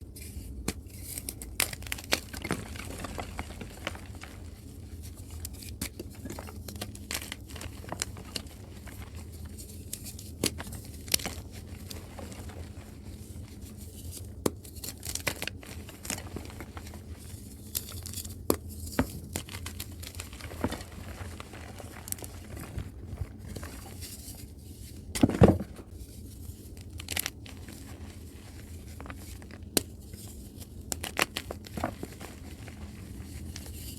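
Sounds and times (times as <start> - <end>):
chalk crumbling and crunching: 0.2 - 25.1, 25.8 - 33.9.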